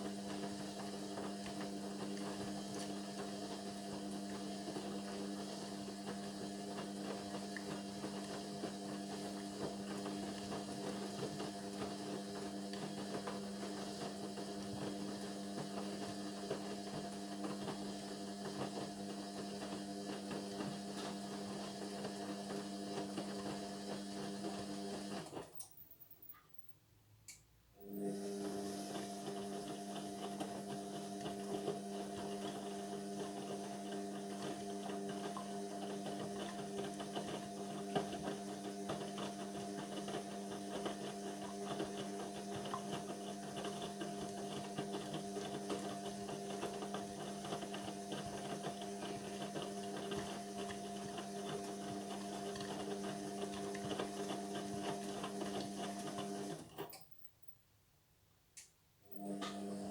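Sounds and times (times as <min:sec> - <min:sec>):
washing machine hum: 0:00.0 - 0:26.7, 0:27.8 - 0:57.3, 0:59.0 - 0:59.9.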